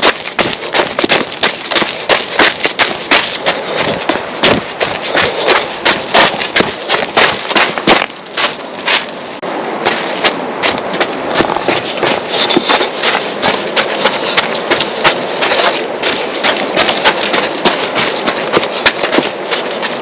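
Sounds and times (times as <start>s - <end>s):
footsteps crunching on trail: 0.0s - 20.0s.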